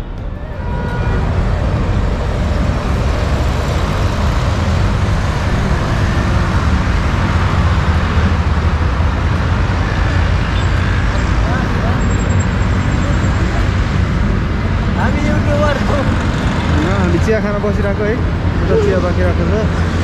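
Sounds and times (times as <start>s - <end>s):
busy road traffic: 0.0s - 20.0s.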